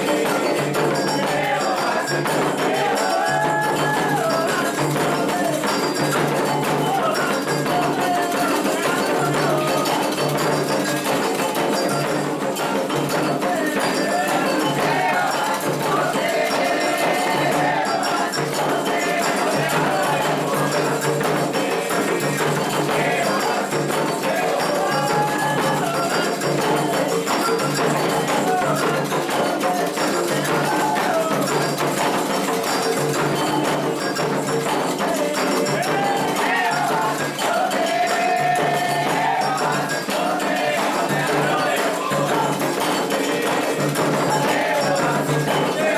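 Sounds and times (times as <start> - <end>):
hand drums rhythm: 0.0 - 45.9
metal bell: 0.0 - 45.9
shakers: 0.0 - 45.9
voices singing: 0.0 - 45.9.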